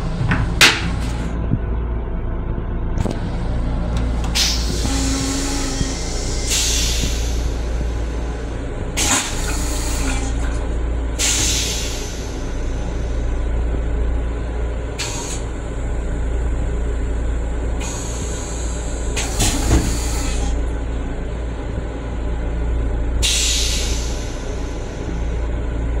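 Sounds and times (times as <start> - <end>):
railcar rumbling: 0.0 - 26.0.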